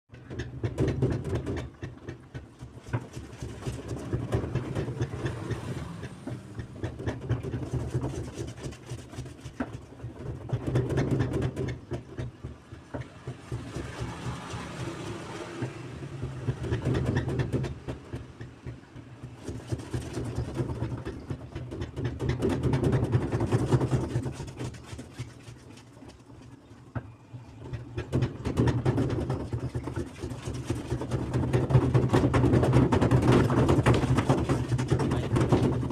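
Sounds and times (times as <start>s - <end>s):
washing machine rattling: 0.1s - 35.9s.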